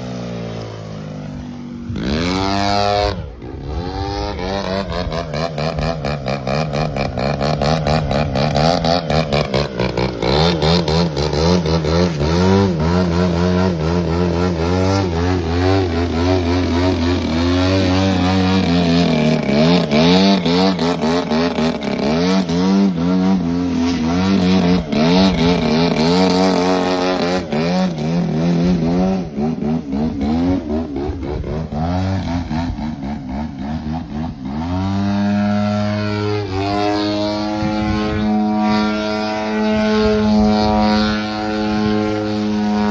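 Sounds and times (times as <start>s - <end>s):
model plane motor and propeller: 0.0s - 42.9s.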